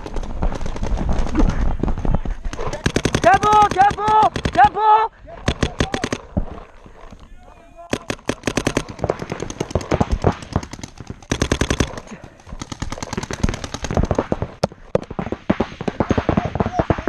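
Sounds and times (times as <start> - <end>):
paintball guns firing: 0.0 - 4.8, 5.4 - 6.7, 7.9 - 17.0.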